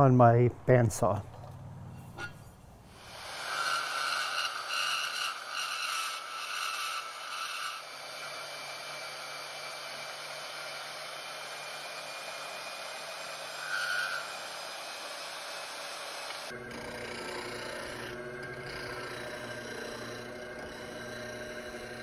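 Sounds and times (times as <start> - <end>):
bandsaw cutting metal: 3.0 - 22.0.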